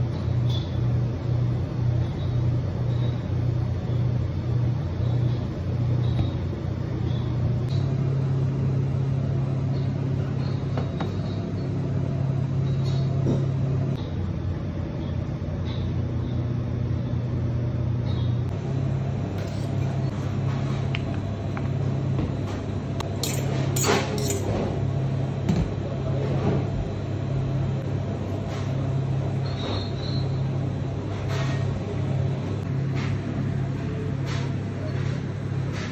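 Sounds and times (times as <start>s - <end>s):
kitchen machine hum: 0.0s - 35.9s.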